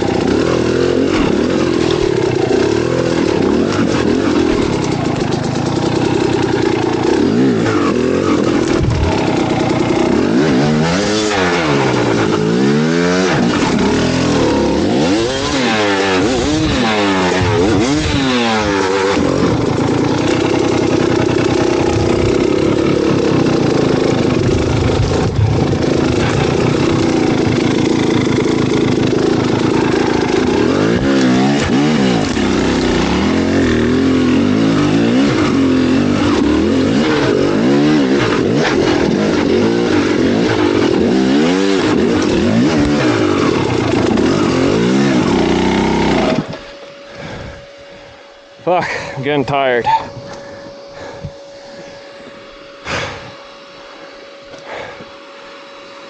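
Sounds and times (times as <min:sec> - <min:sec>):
engine revving: 0:00.0 - 0:47.5.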